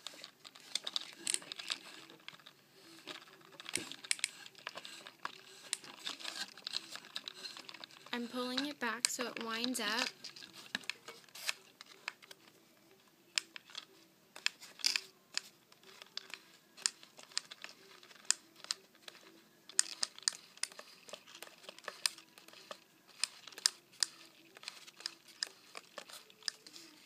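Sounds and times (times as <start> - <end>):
crinkly handling noise: 0.0 - 27.0.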